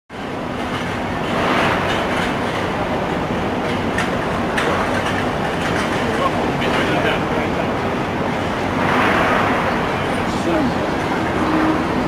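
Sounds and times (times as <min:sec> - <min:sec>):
tram wheels rumbling on rail: 0:00.1 - 0:12.0.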